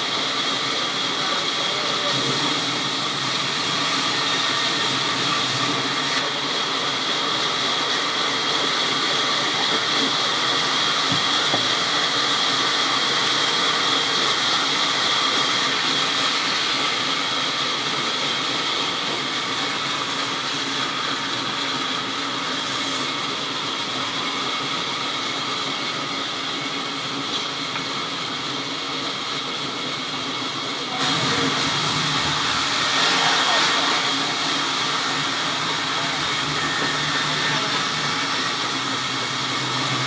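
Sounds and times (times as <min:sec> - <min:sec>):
power saw cutting wood: 0:00.0 - 0:24.8, 0:30.9 - 0:40.0.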